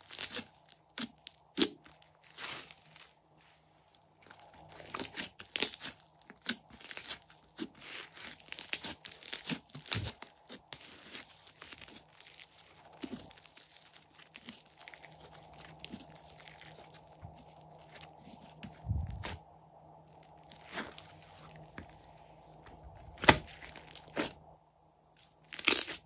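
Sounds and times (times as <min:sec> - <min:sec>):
slime crackling and popping: 0:00.0 - 0:03.1, 0:04.2 - 0:19.4, 0:20.2 - 0:22.1, 0:23.1 - 0:24.3, 0:25.4 - 0:26.0.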